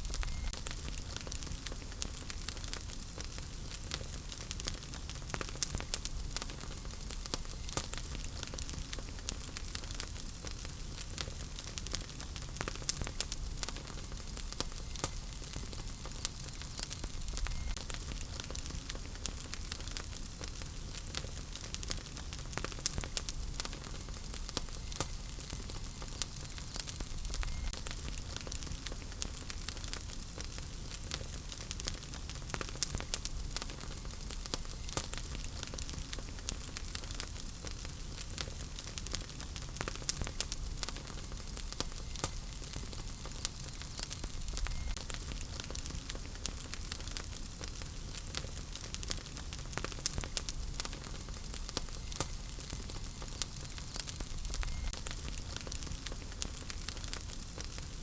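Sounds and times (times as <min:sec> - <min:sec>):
burning logs crackling: 0:00.0 - 0:58.0
fire flames hissing: 0:00.0 - 0:58.0.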